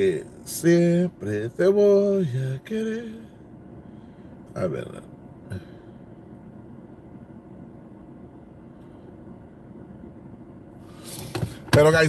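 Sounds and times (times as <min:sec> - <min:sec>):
car cabin low hum: 0:00.0 - 0:12.0.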